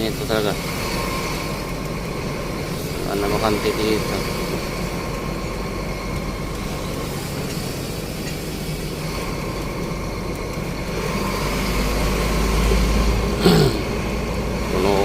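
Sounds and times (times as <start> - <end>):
truck engine low rumble: 0.0 - 15.0.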